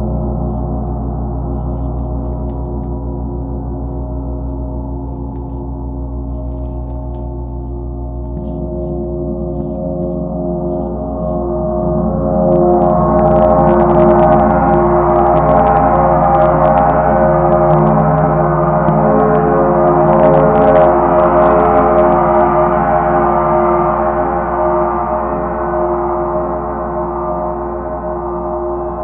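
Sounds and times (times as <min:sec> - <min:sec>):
gong ringing: 0:00.0 - 0:29.0.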